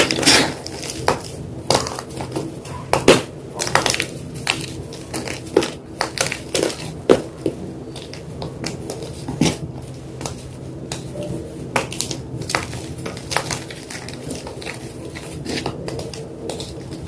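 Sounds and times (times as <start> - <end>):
chalk crunching and cracking: 0.0 - 11.1, 11.7 - 17.0.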